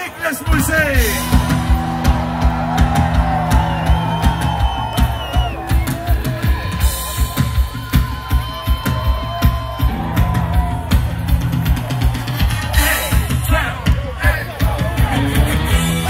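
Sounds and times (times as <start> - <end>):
band music: 0.0 - 16.0
kick drum beat: 1.2 - 15.3.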